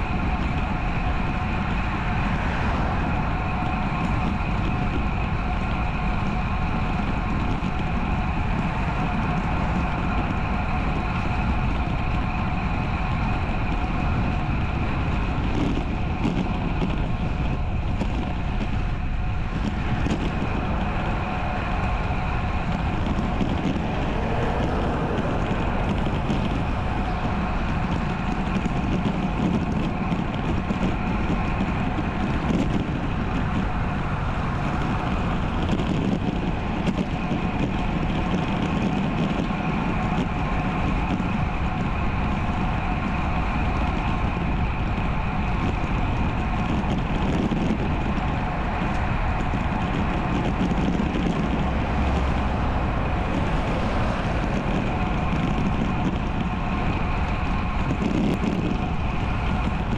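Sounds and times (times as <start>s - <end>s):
road noise from bike: 0.0s - 59.9s
wind rushing: 0.0s - 59.9s.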